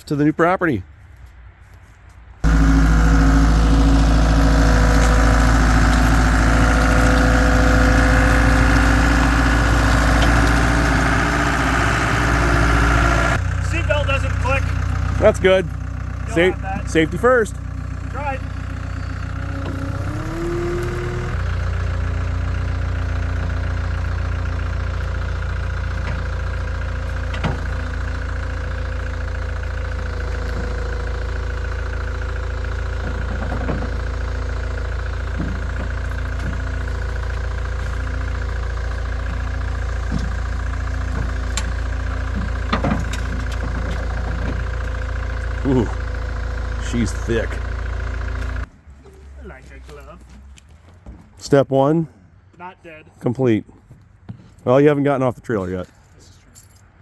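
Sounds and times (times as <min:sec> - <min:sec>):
diesel engine running: 0:02.4 - 0:50.5.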